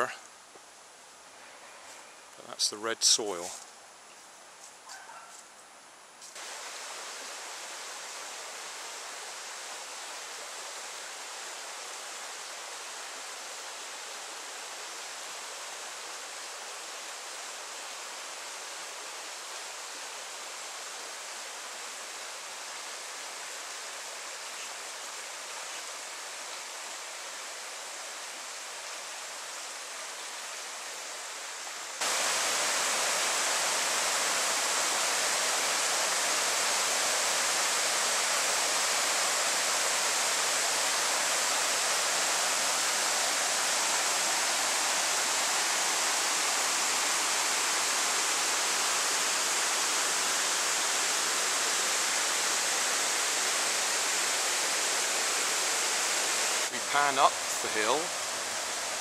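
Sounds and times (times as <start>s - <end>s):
stream rippling over rocks: 6.4s - 59.0s.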